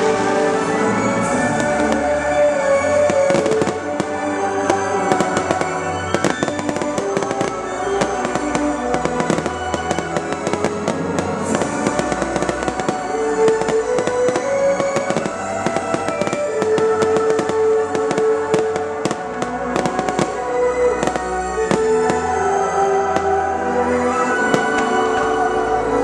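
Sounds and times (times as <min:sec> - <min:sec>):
fireworks bursting and crackling: 0:00.0 - 0:26.0
music over loudspeakers: 0:00.0 - 0:26.0.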